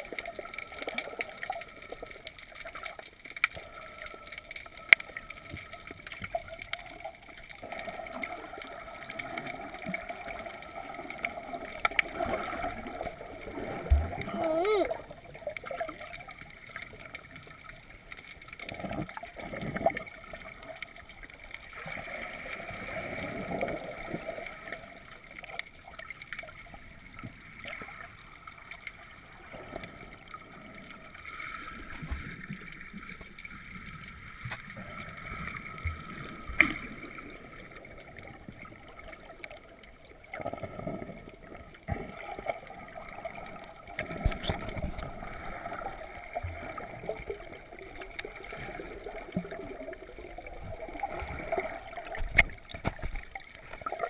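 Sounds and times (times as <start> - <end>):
muffled underwater water sloshing: 0.0 - 54.0.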